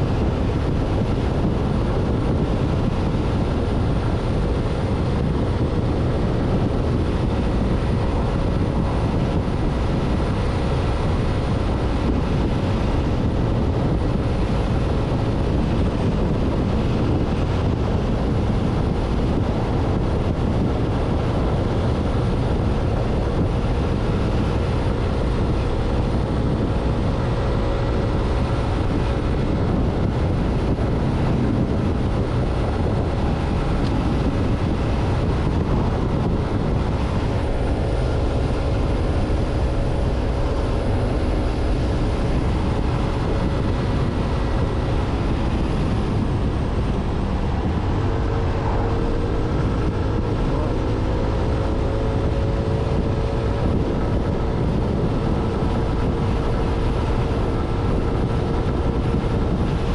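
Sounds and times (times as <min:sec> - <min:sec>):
scooter engine drone: 0:00.0 - 0:59.9
wind and road noise: 0:00.0 - 0:59.9.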